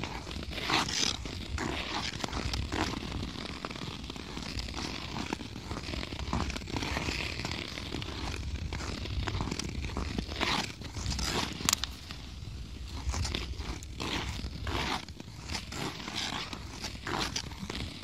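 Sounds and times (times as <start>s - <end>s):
ice skates scraping through snow: 0.0s - 18.0s.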